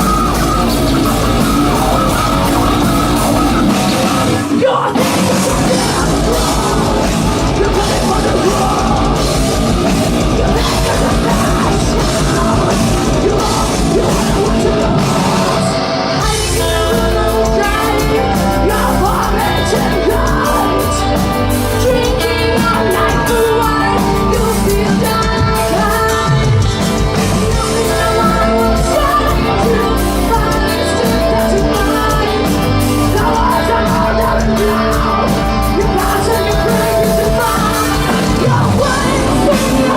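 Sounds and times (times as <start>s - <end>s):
heavy metal band playing: 0.0s - 39.9s
person singing: 0.0s - 39.9s.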